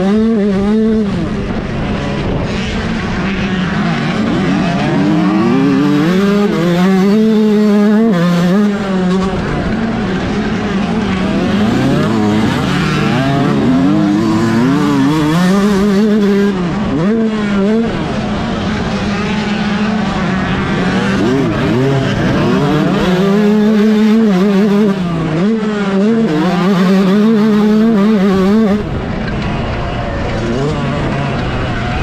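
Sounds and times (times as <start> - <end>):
motocross engine accelerating: 0.0 - 32.0.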